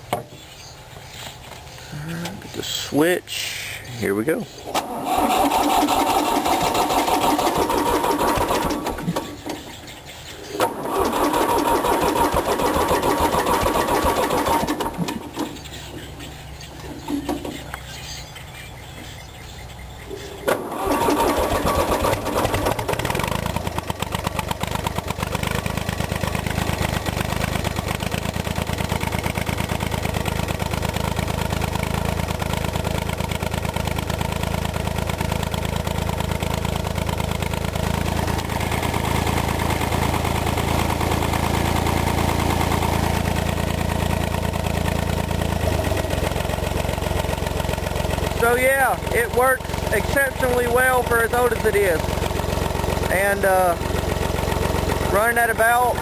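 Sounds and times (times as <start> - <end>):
tractor engine idling: 1.5 - 56.0
tractor engine cranking: 4.6 - 19.2, 19.9 - 56.0.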